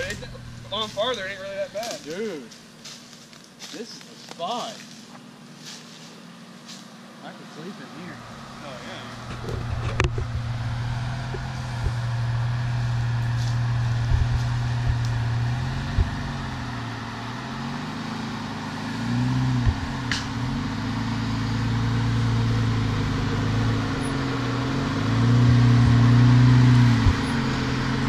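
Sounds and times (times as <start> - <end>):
engine pulling at low revs: 0.0 - 2.0, 5.2 - 28.0.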